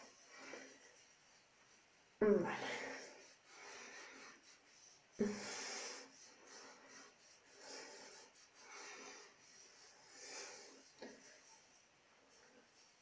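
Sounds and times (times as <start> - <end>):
wet cotton pad rubbing skin: 0.0 - 13.0.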